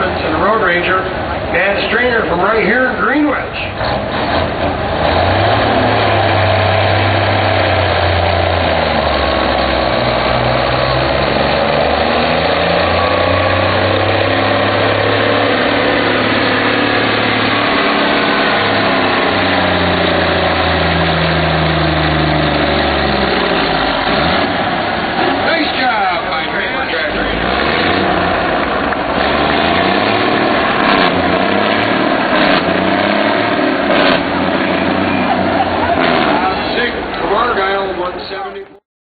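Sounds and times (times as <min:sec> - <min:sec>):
diesel truck engine running hard: 0:00.0 - 0:38.8.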